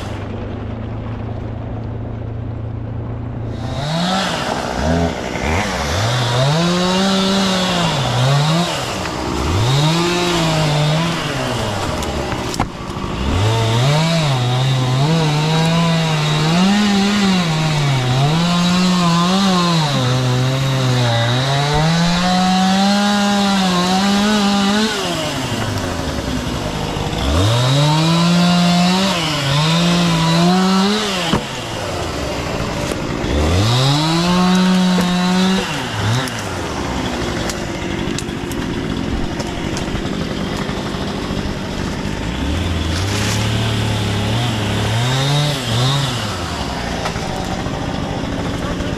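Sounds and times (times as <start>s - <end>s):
chainsaw cutting wood: 3.4s - 48.9s.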